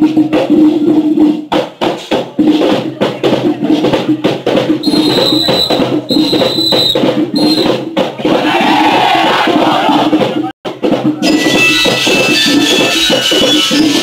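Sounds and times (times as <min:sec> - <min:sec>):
marching band drums: 0:00.0 - 0:14.0.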